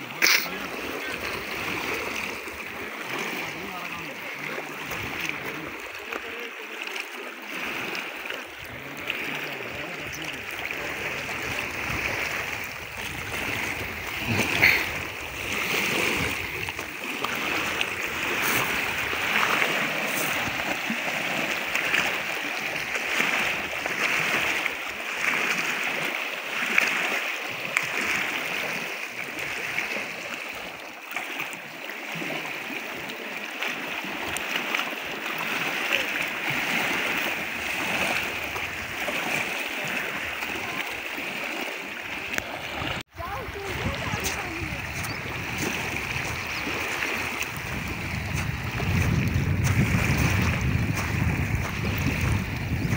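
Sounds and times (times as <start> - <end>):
waves lapping on rocky shore: 0.0 - 52.9.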